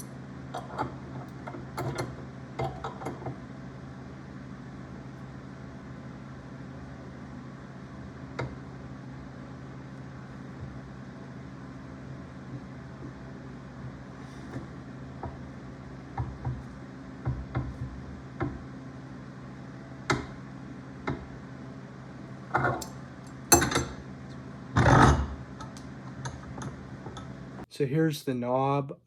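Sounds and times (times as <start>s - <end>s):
steady low hum: 0.0s - 28.8s.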